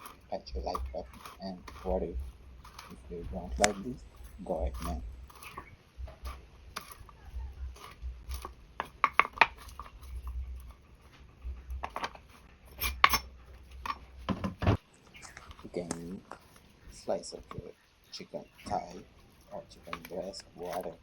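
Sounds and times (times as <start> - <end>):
knife scraping: 0.0 - 21.0.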